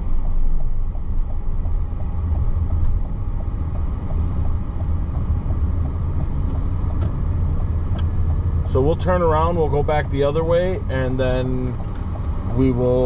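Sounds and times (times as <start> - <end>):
road and engine rumble: 0.0 - 13.0
turn signal ticking: 0.0 - 13.0.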